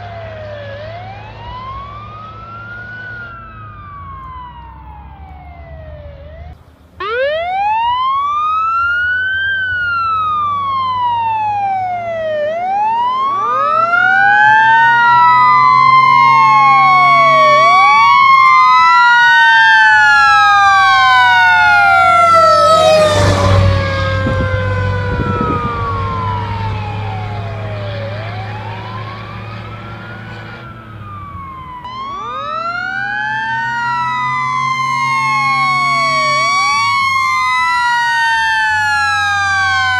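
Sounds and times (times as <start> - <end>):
fire truck siren wailing: 0.0 - 39.9.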